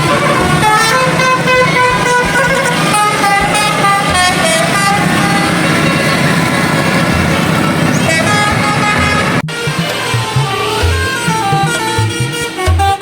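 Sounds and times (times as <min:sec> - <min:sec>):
bus engine running: 0:00.0 - 0:12.7
multi-tone air horn melody: 0:00.0 - 0:13.0.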